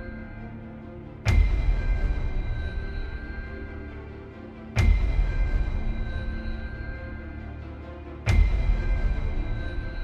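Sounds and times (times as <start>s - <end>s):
suspenseful background music: 0.0s - 10.0s.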